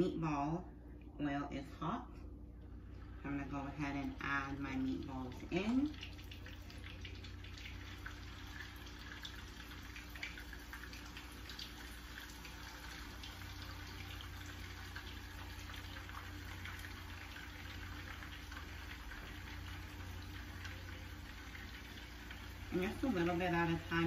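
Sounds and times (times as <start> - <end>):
meatballs sizzling in oil: 3.1 - 24.0.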